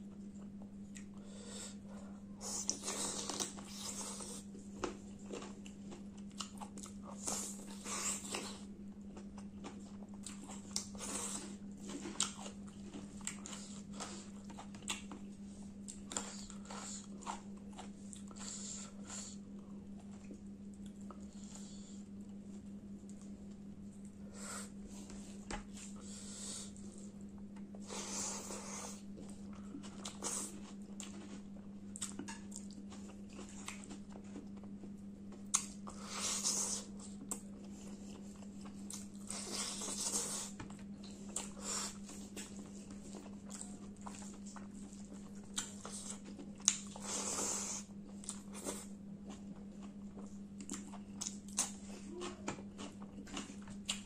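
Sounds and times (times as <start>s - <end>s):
steady low hum: 0.0s - 54.0s
chewing food: 1.9s - 24.2s, 24.9s - 54.0s.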